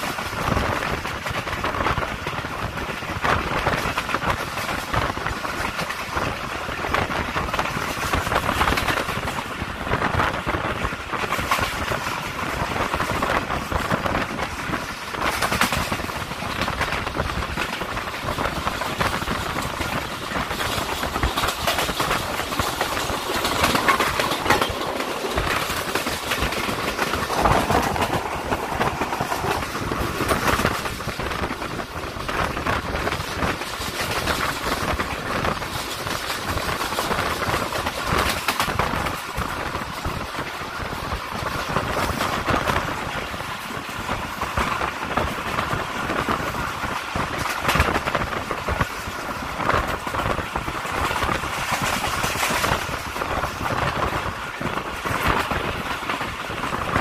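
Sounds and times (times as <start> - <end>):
train wheel and track rush: 0.0 - 57.0
wheels clattering on rails: 0.0 - 57.0.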